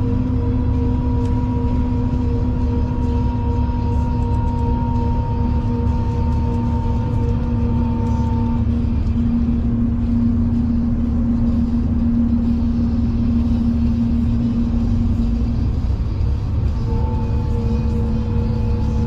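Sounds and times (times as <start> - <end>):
steady hum: 0.0 - 19.0
train wheels rumbling on rail: 0.0 - 19.0.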